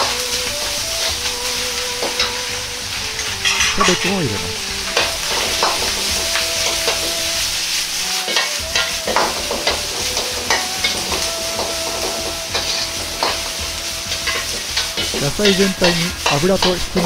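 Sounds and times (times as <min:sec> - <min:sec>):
food sizzling in a wok: 0:00.0 - 0:17.0
metal ladle scraping a wok: 0:00.0 - 0:17.0.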